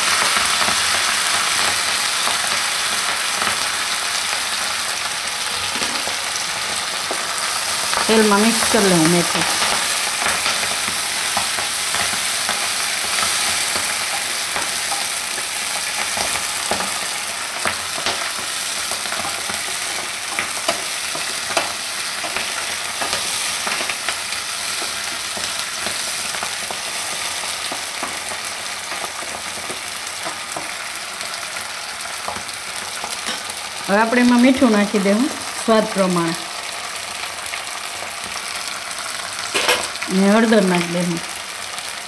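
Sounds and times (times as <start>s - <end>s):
leaves sizzling in hot oil: 0.0s - 42.0s.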